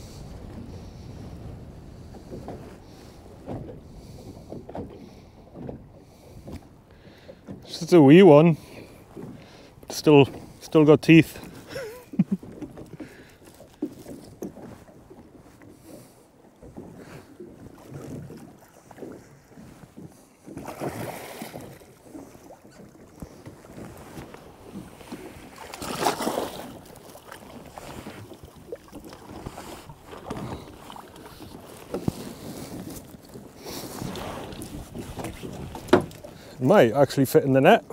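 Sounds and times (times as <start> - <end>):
water lapping against boat: 0.0 - 37.9.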